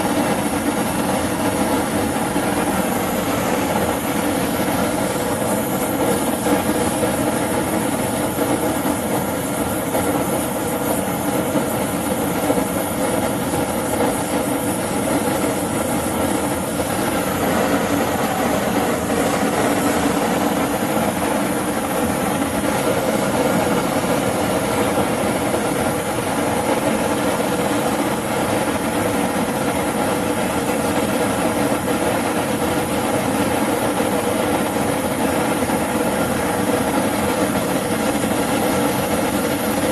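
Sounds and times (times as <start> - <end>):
gas torch burning: 0.0 - 39.9.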